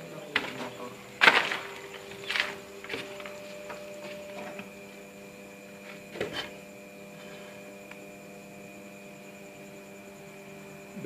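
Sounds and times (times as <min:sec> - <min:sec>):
incubator electrical hum: 0:00.0 - 0:11.0.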